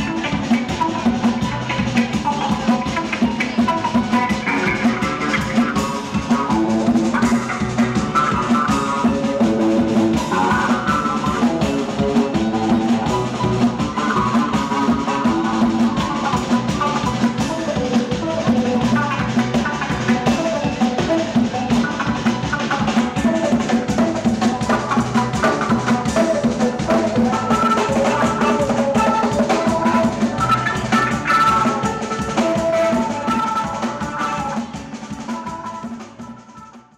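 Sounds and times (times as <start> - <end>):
band music: 0.0 - 36.9
drum kit beat: 0.0 - 36.9.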